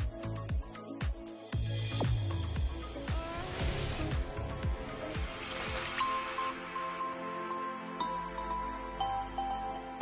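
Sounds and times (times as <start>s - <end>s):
soft new-age music: 0.0s - 10.0s.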